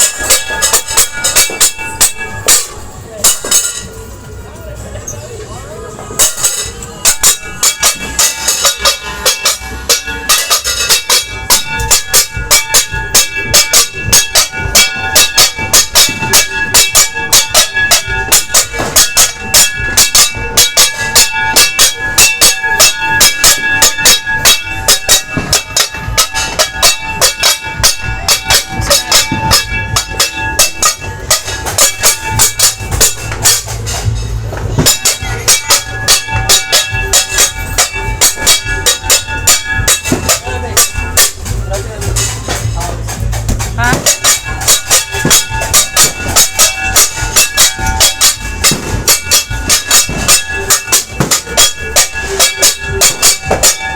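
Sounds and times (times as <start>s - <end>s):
metal banging and ringing: 0.0s - 53.9s.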